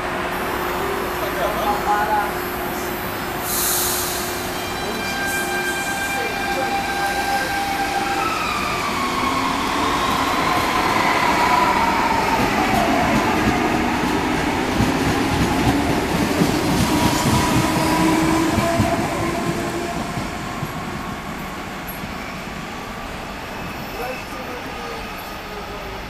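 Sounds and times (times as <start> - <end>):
steel wheels rolling on rail: 0.4 - 25.8.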